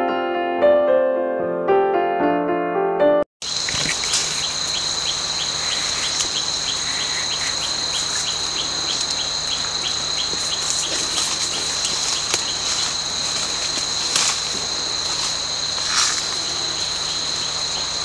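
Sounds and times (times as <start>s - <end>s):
insects droning: 3.4s - 18.0s.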